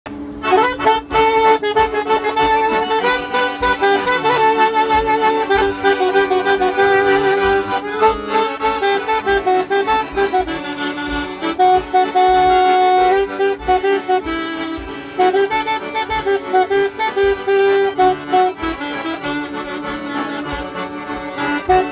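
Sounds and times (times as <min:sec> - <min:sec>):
accordions playing a hymn: 0:00.1 - 0:21.9
saxophone: 0:00.1 - 0:21.9
pulsing bass: 0:00.4 - 0:21.9.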